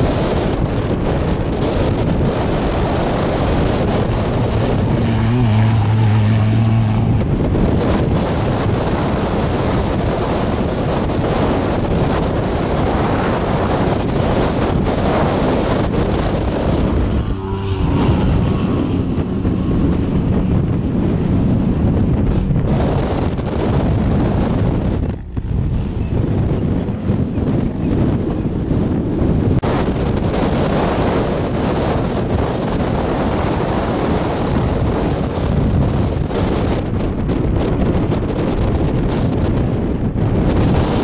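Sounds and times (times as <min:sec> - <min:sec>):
race truck engines running: 0:00.0 - 0:41.0
wind buffeting microphone: 0:00.0 - 0:41.0.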